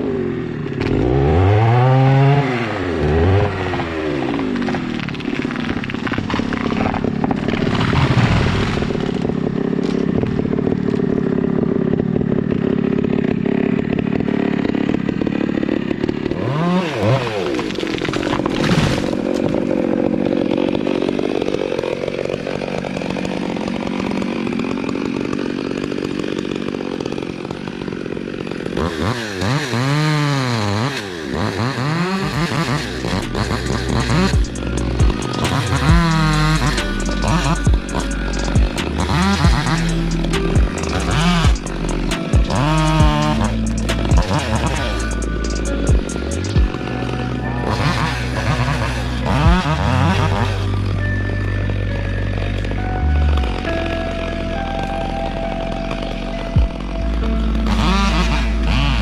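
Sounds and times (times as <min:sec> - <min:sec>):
chainsaw running: 0:00.0 - 0:59.0.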